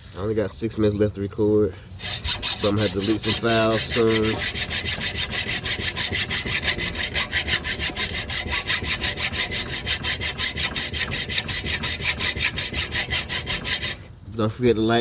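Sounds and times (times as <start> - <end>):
metal filing rasping strokes: 2.0 - 14.1.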